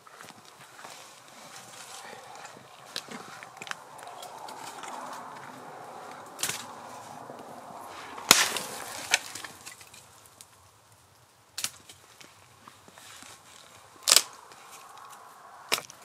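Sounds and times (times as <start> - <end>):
sharp cracks: 1.6 - 12.5, 13.6 - 16.0.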